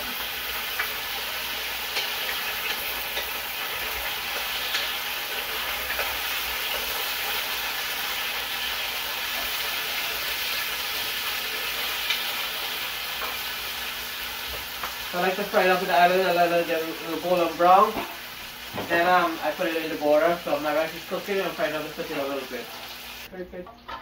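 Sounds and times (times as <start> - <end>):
potatoes sizzling in oil: 0.0 - 23.3.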